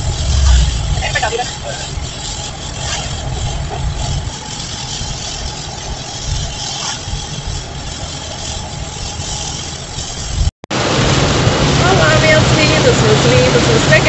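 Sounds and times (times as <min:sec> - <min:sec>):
heavy rain on car: 0:00.0 - 0:06.2, 0:07.5 - 0:14.0
road and engine rumble: 0:00.0 - 0:14.0.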